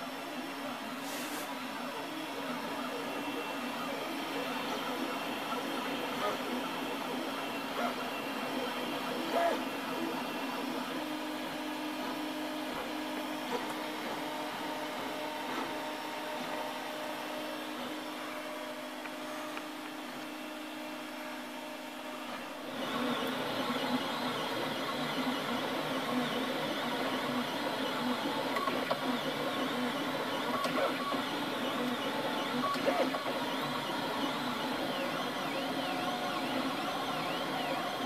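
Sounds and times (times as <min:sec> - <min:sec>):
printer motors whining: 0:00.0 - 0:38.0.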